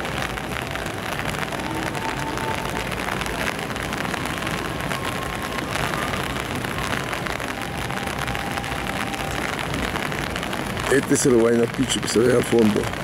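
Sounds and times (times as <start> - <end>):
heavy rain on wet pavement: 0.0 - 13.0.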